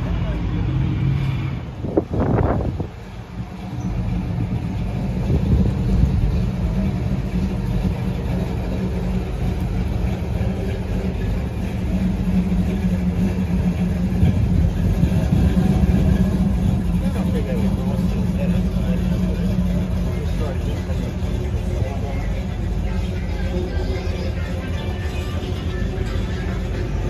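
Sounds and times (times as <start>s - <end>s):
car engine idling: 0.0s - 27.0s
street noise: 0.0s - 27.0s.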